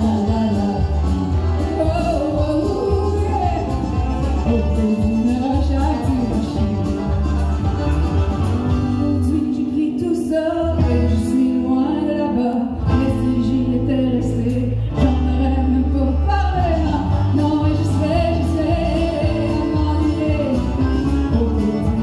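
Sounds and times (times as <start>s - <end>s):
amplified band accompaniment: 0.0s - 22.0s
woman singing country song: 0.0s - 22.0s.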